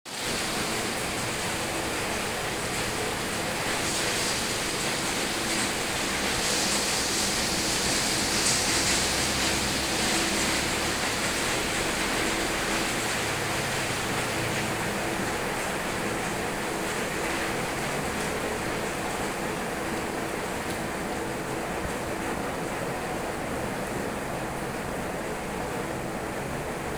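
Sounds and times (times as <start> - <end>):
steady rain falling: 0.1 - 26.9.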